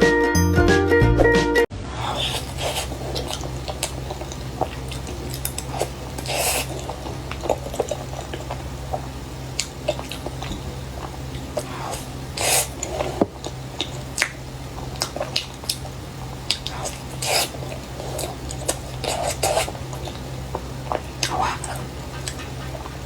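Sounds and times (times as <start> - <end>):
low hum: 1.7 - 23.0
wet eating squishes and smacks: 2.0 - 23.0.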